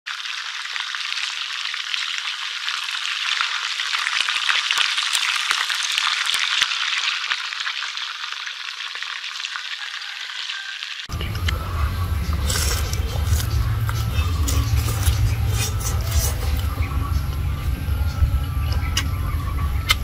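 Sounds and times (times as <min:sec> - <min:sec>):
fish deep-frying in oil: 0:00.1 - 0:20.0.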